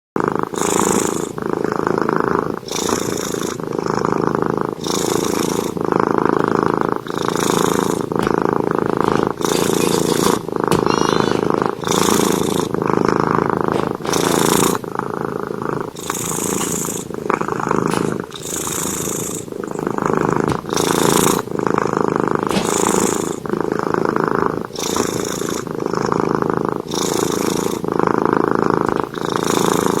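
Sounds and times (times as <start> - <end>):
cat purring: 0.2 - 30.0.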